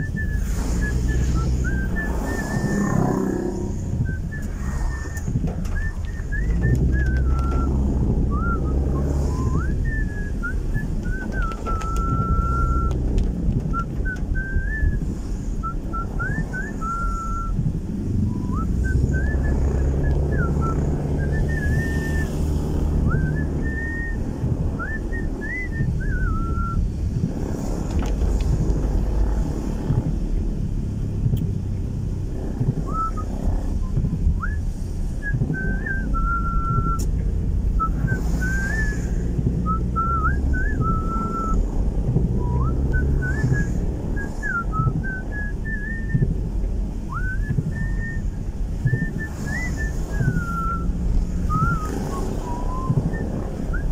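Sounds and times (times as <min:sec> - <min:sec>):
person whistling a tune: 0:00.0 - 0:17.6, 0:18.2 - 0:27.2, 0:32.8 - 0:46.4, 0:47.1 - 0:53.9
car engine and tyre rumble: 0:00.0 - 0:53.9.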